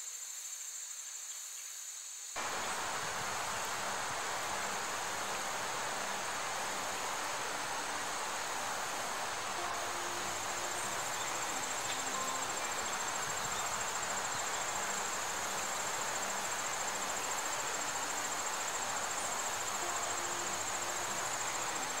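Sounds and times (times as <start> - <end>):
constant hiss: 0.0 - 22.0
insects trilling: 0.0 - 22.0.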